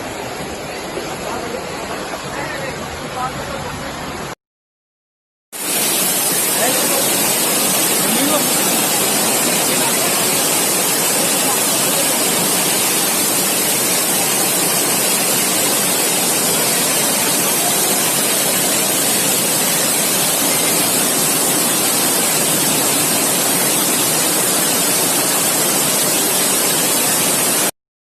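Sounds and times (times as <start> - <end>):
heavy rain and rushing water: 0.0 - 4.4, 5.6 - 27.7.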